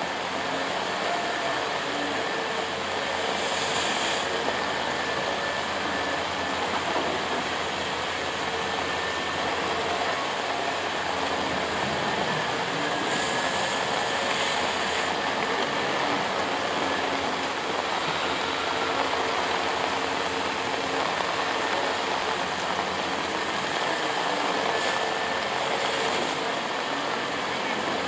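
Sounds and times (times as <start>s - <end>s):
faint high whine: 0.0s - 28.0s
heavy rain: 0.0s - 28.0s
machine engine running: 0.0s - 28.0s
wind: 0.0s - 28.0s.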